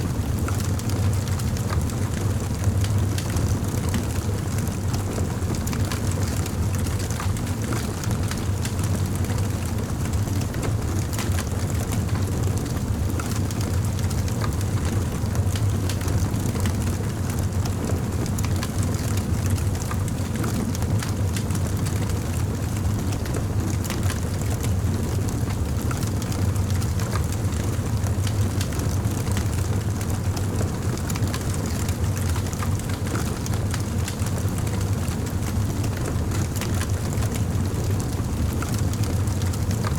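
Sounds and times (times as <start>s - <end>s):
campfire flames rumbling: 0.0s - 39.9s.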